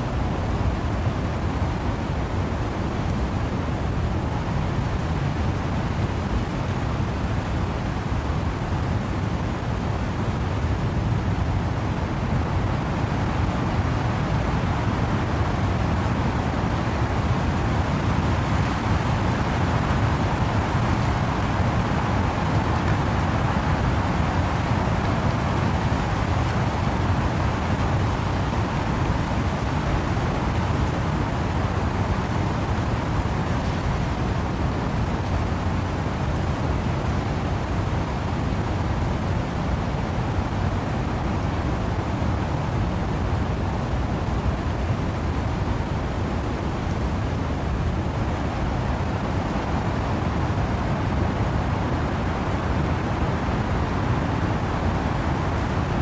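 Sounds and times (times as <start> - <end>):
wind through trees: 0.0 - 56.0
wind-driven rain: 0.0 - 56.0.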